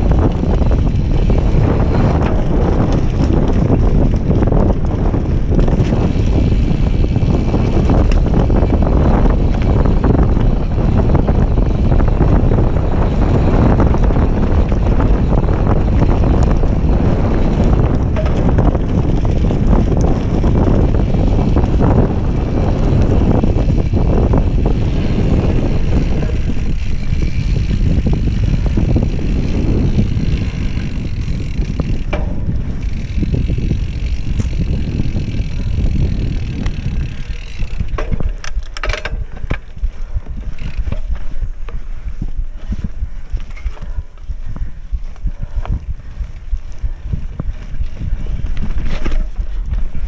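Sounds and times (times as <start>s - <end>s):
bike rattle: 0.0s - 50.0s
bike tyre noise: 0.0s - 50.0s
wind buffeting microphone: 0.0s - 50.0s.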